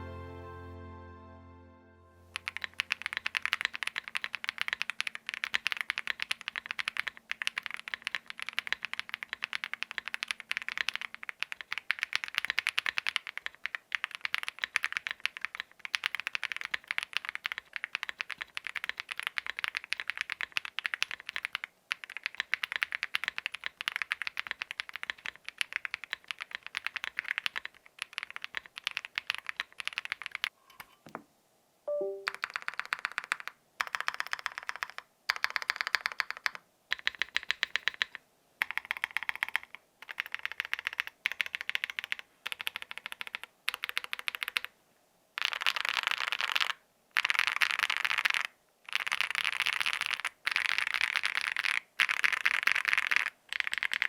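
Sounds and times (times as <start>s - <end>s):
fast typing on mechanical keyboard: 2.4s - 30.5s, 32.3s - 44.7s, 45.4s - 54.0s.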